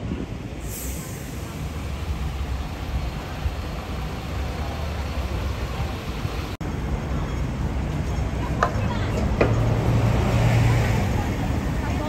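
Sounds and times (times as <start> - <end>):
low rumble of passing vehicles: 0.0 - 12.0.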